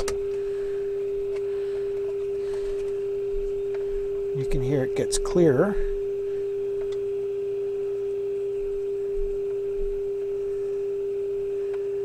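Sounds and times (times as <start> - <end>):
steady pure test tone: 0.0 - 12.0.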